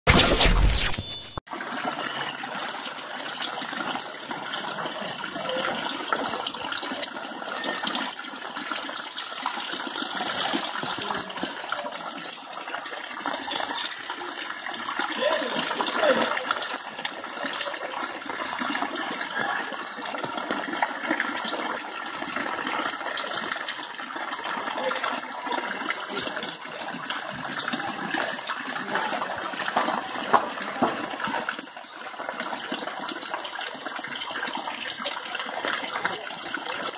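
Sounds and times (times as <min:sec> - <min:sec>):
water pouring into standing water: 0:01.5 - 0:36.9.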